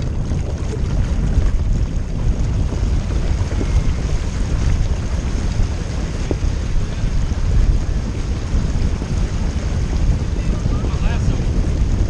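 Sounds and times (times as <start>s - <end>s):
water rushing past kayak: 0.0s - 12.0s
wind noise on microphone: 0.0s - 12.0s.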